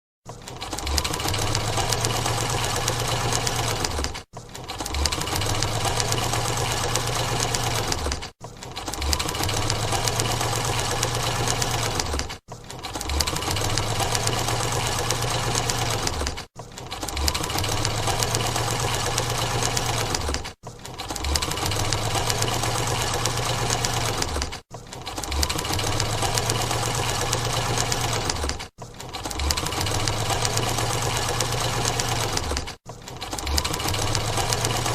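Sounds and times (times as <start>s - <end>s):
sewing machine stitching: 0.2s - 34.9s.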